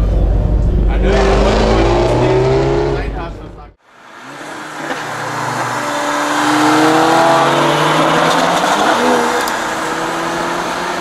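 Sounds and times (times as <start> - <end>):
car engine revving hard: 1.0 - 3.3, 4.2 - 11.0.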